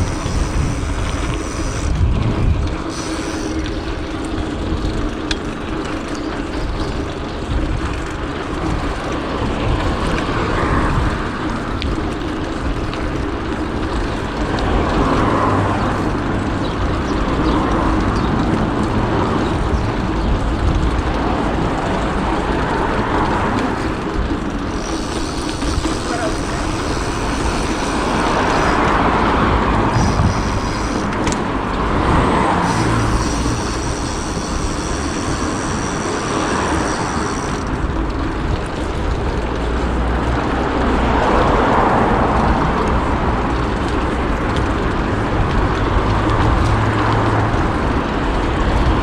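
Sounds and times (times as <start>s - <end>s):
wind noise: 0.0s - 5.0s, 14.4s - 49.0s
city traffic: 0.0s - 49.0s
vehicles passing: 0.0s - 49.0s.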